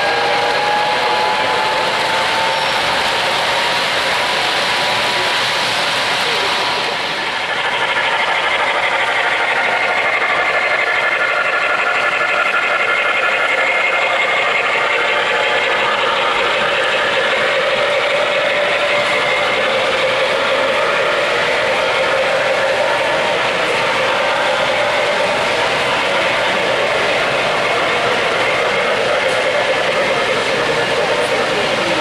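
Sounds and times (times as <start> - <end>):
model train wheels rattling on rails: 0.0 - 32.0.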